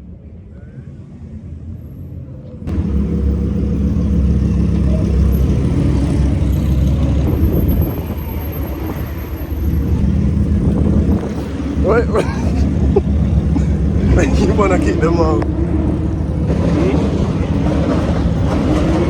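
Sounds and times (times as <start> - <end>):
car engine rumbling: 2.4 - 19.0.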